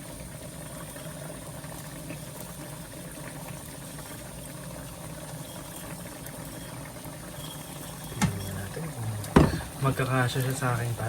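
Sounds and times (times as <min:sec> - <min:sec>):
stock boiling in a pan: 0:00.0 - 0:11.0.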